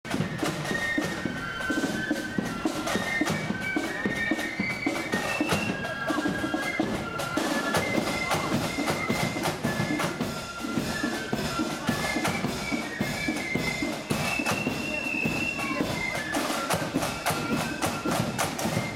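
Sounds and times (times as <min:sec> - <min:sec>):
flute melody: 0:00.1 - 0:18.9
snare drums rattling: 0:00.1 - 0:18.9.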